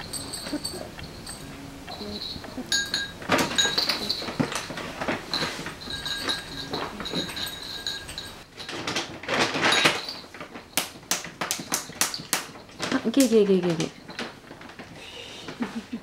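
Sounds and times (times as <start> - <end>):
kibble clinking against bowl: 0.0 - 15.0
plastic bag rustling: 0.0 - 16.0.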